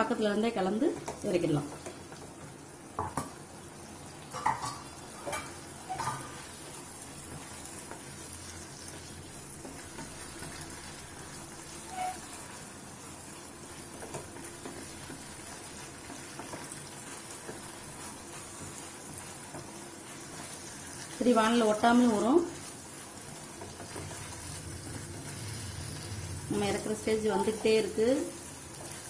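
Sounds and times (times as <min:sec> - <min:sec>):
food sizzling: 0:00.0 - 0:29.0
wooden spatula scraping a pan: 0:04.4 - 0:29.0.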